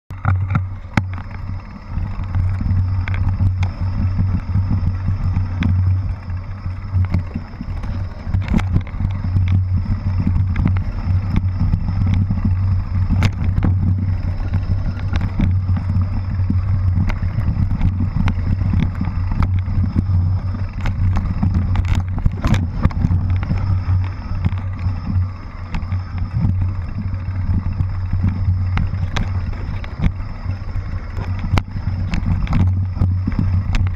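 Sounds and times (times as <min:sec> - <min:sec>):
bike rattling over bumps: 0:00.1 - 0:33.9
bike rumbling on dirt trail: 0:00.1 - 0:33.9.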